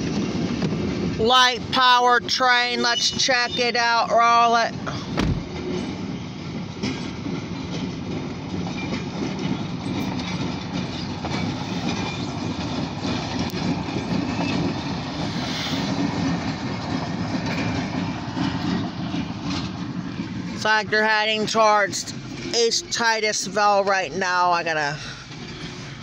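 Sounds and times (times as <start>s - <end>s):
diesel locomotive engine: 0.0s - 26.0s
train wheels on rails: 0.0s - 26.0s.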